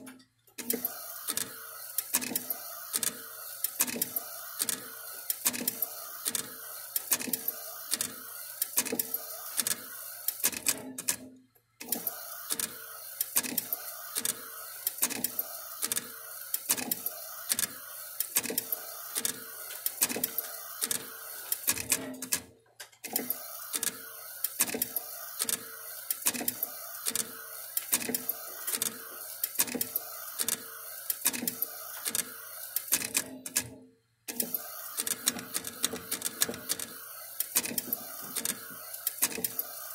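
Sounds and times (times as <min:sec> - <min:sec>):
printer clicks: 0:00.0 - 0:39.9.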